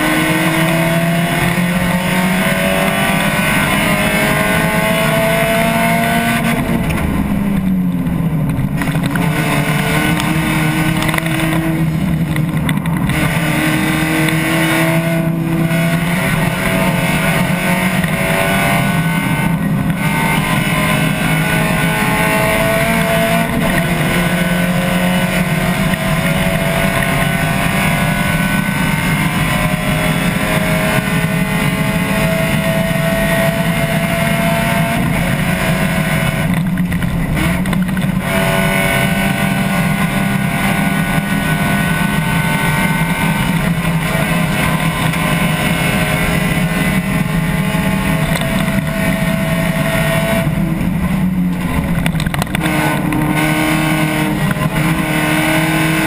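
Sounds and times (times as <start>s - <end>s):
car engine running hard: 0.0s - 56.0s.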